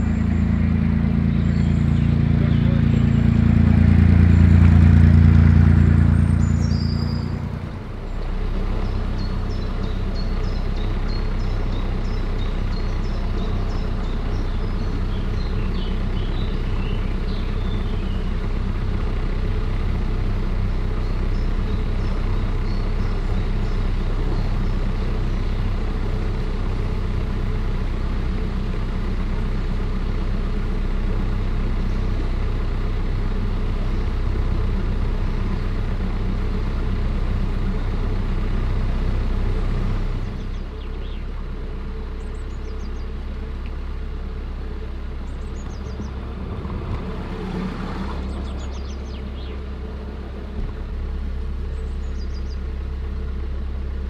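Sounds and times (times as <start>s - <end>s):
passing boat engine: 0.0s - 53.9s
boat diesel engine running: 0.0s - 54.0s.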